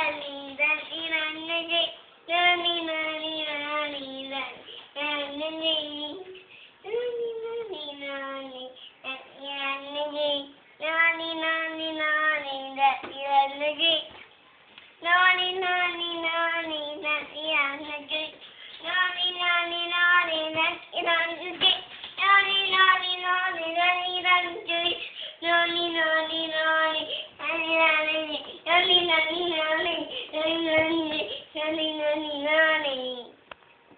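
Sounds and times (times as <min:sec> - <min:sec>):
little girl singing: 0:00.0 - 0:14.2, 0:15.0 - 0:33.4.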